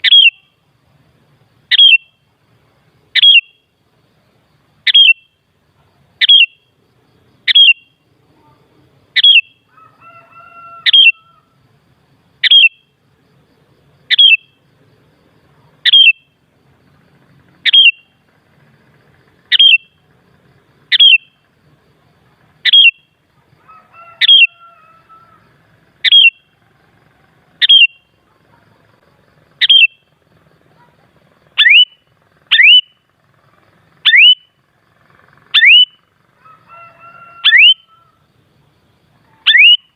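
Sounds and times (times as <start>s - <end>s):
bulbul sharp calls: 0.0s - 0.7s, 1.4s - 11.8s, 12.4s - 39.9s
faint low bird warbling: 1.6s - 2.3s, 3.0s - 11.6s, 15.2s - 38.4s, 39.1s - 39.9s.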